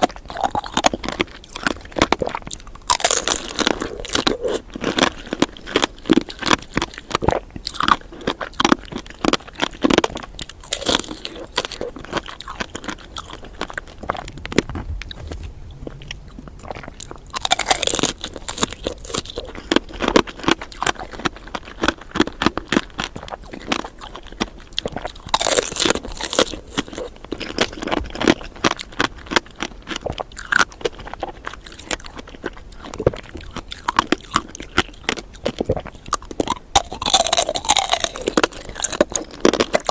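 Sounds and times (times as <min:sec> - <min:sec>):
candied fruit crunching when chewed: 0:00.0 - 0:39.9.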